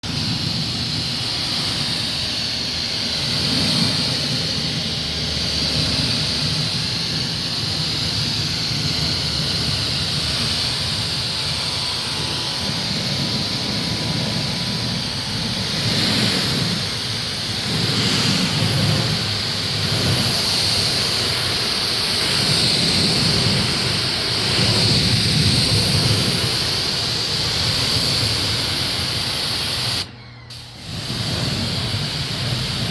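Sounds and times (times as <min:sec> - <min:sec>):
pressure washer spraying boards: 0:00.0 - 0:32.9.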